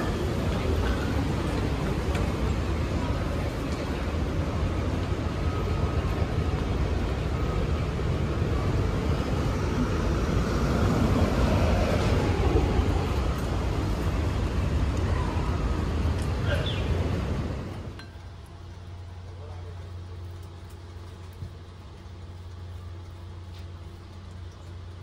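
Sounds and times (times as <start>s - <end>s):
rumble of passing vehicles: 0.0s - 25.0s.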